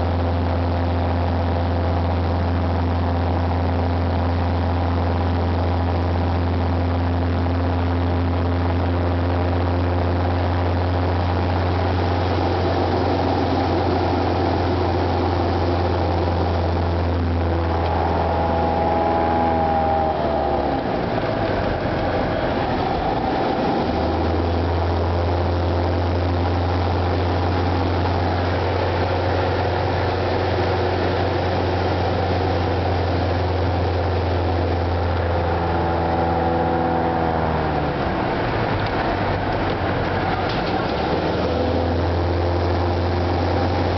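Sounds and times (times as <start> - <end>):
propeller engine droning: 0.0 - 43.9.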